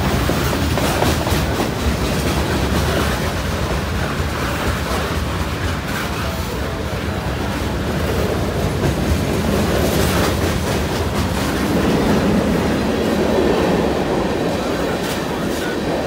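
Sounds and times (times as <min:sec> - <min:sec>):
freight train wheels rumbling on rail: 0:00.0 - 0:16.0
rail clicks: 0:00.0 - 0:16.0.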